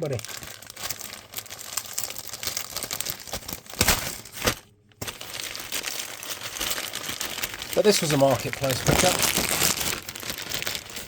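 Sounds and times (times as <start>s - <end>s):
packaging crackles: 0.0s - 11.0s
packaging crinkling: 0.0s - 11.0s.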